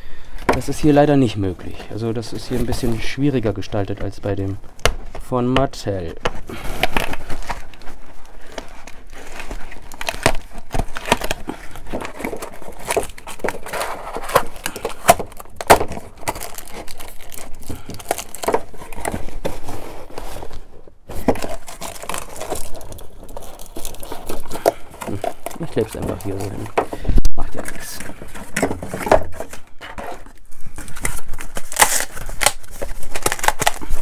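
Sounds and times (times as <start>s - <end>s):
cardboard rustling and crinkling: 0.4s - 34.0s.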